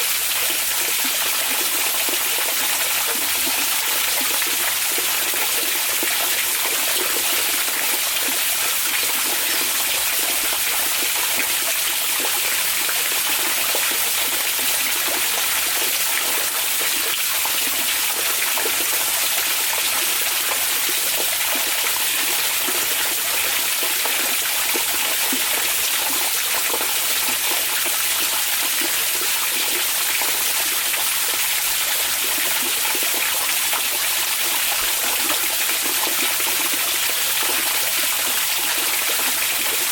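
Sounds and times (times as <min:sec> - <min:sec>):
hot spring water running: 0:00.0 - 0:39.9.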